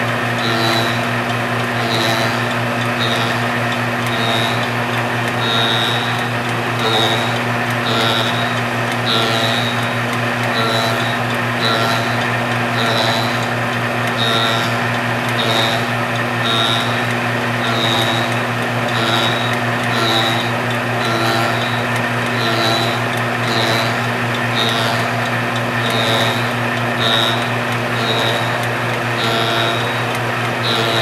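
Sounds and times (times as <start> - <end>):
motor hum: 0.0 - 31.0.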